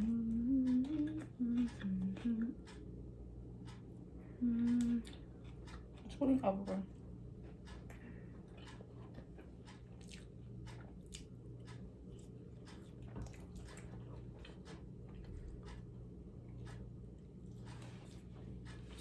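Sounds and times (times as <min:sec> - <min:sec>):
person chewing a sandwich: 0:00.0 - 0:02.9, 0:03.6 - 0:06.1, 0:07.0 - 0:19.0
low steady hum: 0:00.0 - 0:19.0.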